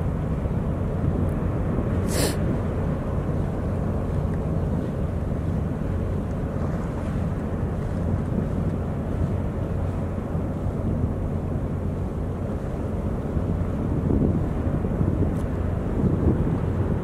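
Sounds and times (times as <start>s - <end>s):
ship engines rumbling: 0.0s - 17.0s
wind on microphone: 0.0s - 17.0s.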